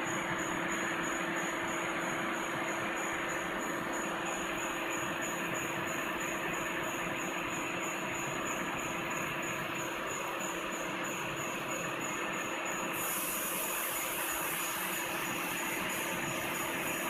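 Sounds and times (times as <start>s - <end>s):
mixer motor hum and hiss: 0.0s - 17.0s.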